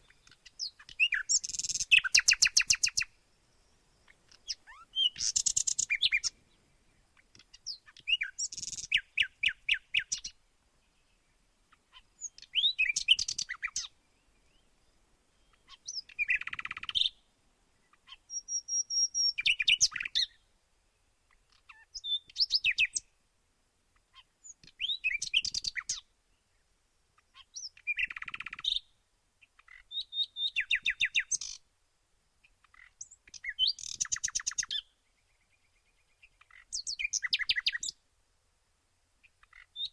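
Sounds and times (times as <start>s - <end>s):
songbird singing: 0.0s - 38.1s, 39.1s - 39.9s.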